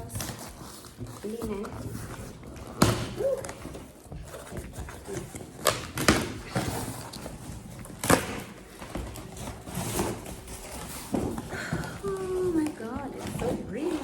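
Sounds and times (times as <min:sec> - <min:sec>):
packaging rustling and crackling: 0:00.0 - 0:14.0.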